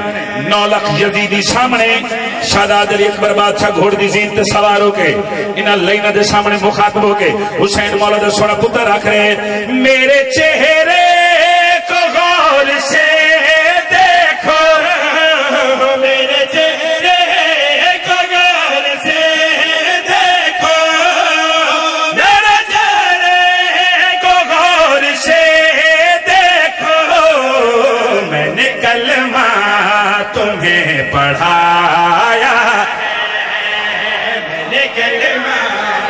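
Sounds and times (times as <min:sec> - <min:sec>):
men chanting into microphones: 0:00.0 - 0:36.0.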